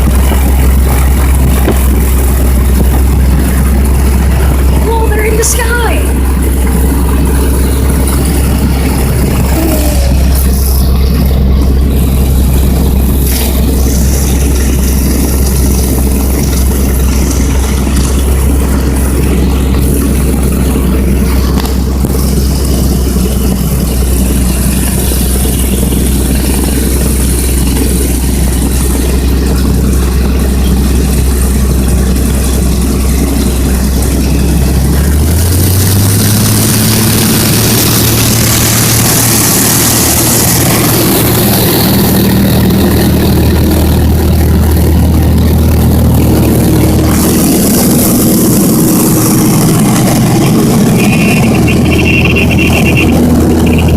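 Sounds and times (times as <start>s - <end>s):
propeller airplane engine: 0.0s - 53.9s.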